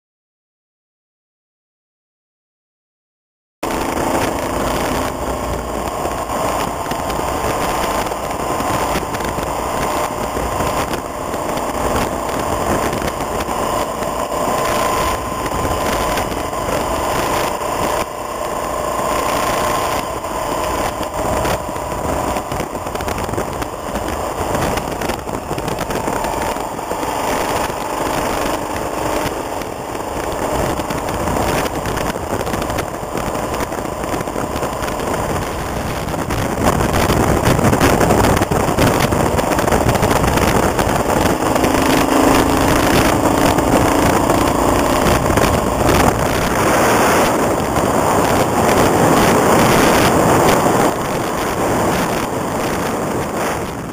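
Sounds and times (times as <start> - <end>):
motorcycle engine running: 3.6 - 53.9
tyres on gravel road: 3.6 - 53.9
wind rushing: 3.6 - 53.9.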